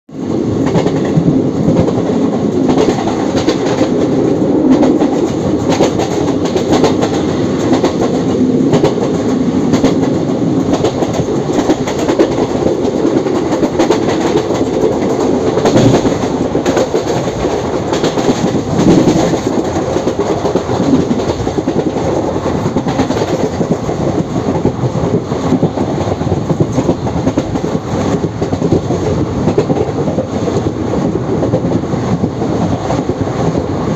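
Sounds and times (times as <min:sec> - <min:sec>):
train wheels rumbling on rail: 0:00.1 - 0:33.9
wheels clicking over rail joints: 0:00.5 - 0:33.6.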